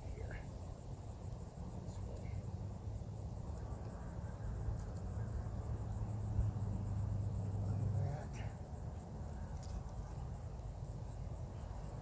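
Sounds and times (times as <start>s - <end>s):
insects chirping: 0.0s - 12.0s
low steady rumble: 0.0s - 12.0s.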